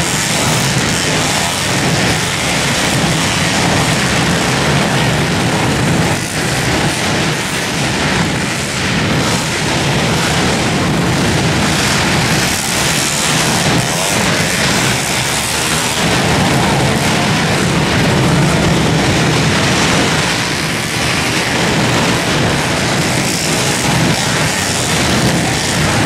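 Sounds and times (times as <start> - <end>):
pit bike engines revving: 0.0 - 26.0.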